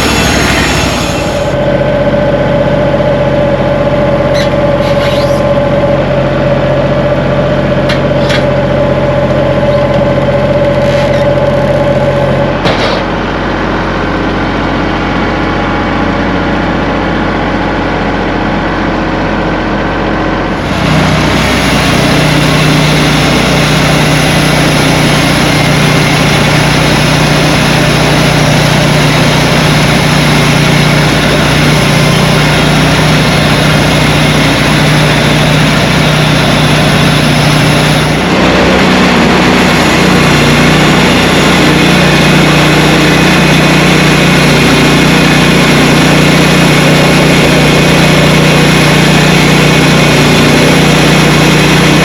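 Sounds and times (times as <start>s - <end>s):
engine running and speeding up: 0.0s - 52.0s.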